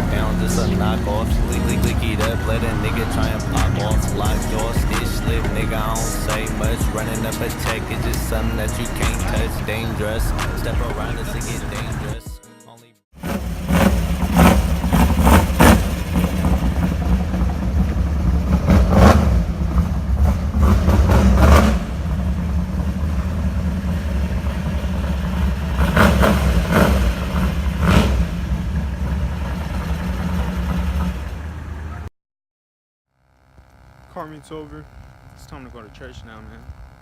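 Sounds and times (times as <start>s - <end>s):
car engine revving: 0.0s - 12.2s, 13.2s - 32.1s
car engine running: 0.0s - 12.2s, 13.2s - 32.0s, 33.2s - 37.0s.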